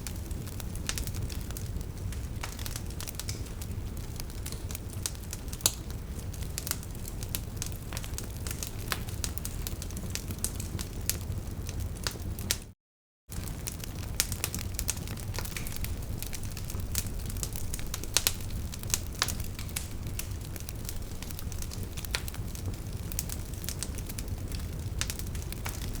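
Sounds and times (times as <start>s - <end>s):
logs crackling and popping: 0.0s - 12.6s, 13.3s - 26.0s
low rumble of flame: 0.0s - 12.7s, 13.3s - 26.0s.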